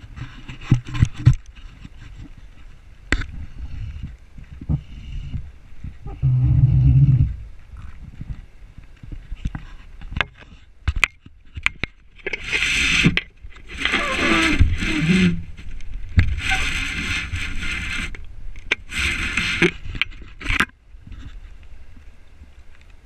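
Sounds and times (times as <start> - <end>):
wind-like rustling on microphone: 0.0 - 23.0.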